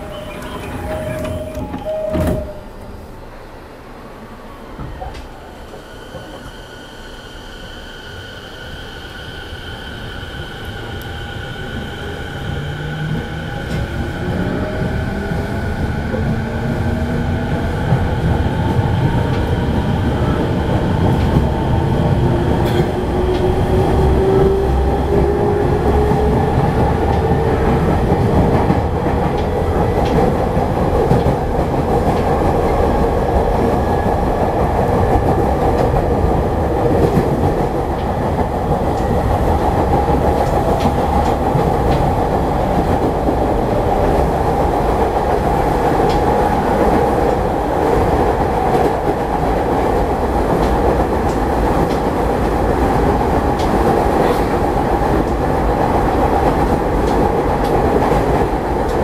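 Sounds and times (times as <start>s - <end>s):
wheels rumbling on rails: 10.7s - 59.0s.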